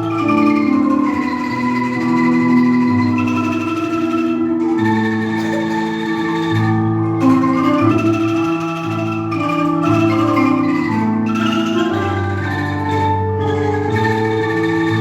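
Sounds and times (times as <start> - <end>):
bamboo angklung ensemble chords: 0.0 - 15.0
low bass line: 0.0 - 15.0.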